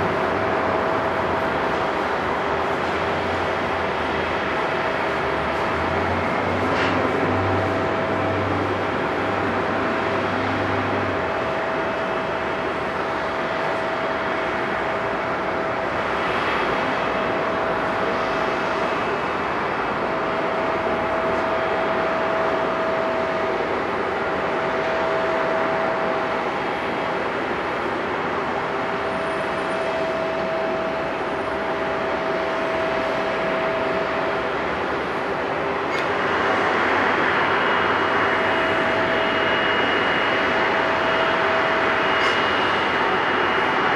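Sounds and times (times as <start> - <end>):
jet engines taxiing rumble: 0.0 - 43.9
thin jet engine whine: 0.0 - 43.9.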